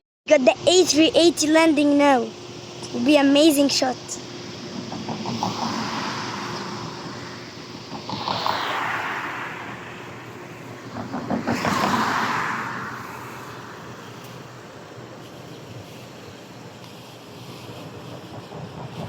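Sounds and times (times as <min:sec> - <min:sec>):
vehicles passing with rushing swish: 0:00.7 - 0:19.0.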